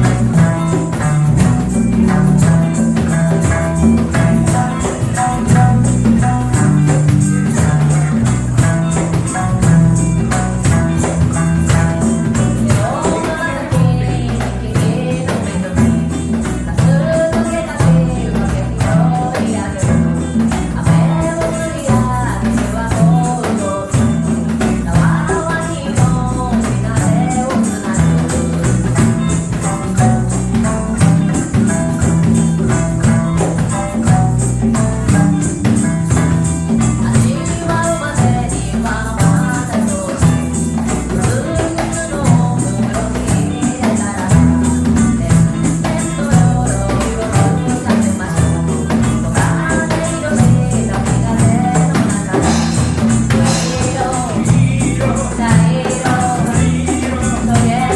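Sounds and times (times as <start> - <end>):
live reggae band: 0.0 - 57.9.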